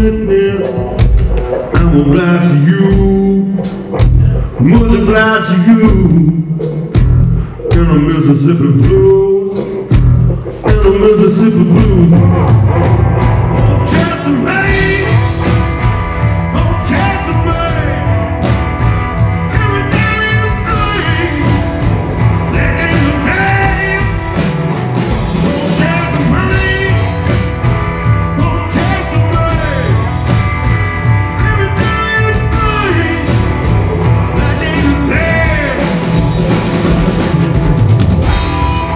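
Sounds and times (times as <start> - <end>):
bass: 0.0 - 38.9
drums: 0.0 - 38.9
electric guitar: 0.0 - 38.9.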